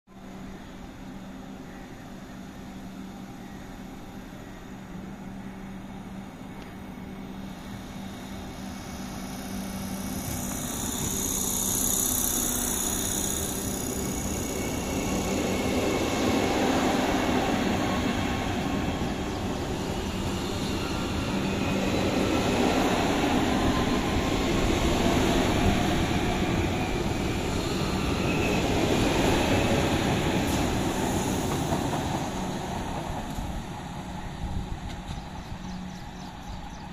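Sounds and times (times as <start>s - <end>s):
train wheels rumbling on rails: 6.4s - 36.9s.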